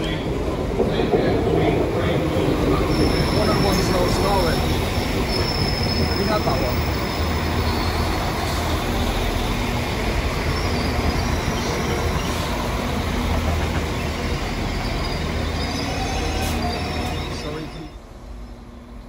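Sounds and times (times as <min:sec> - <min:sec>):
train engine drone: 0:00.0 - 0:19.0
train wheel noise: 0:00.0 - 0:19.0.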